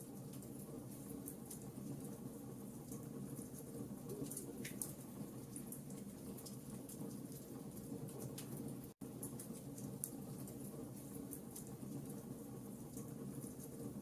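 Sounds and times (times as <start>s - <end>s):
low rumble of flames: 0.0s - 14.0s.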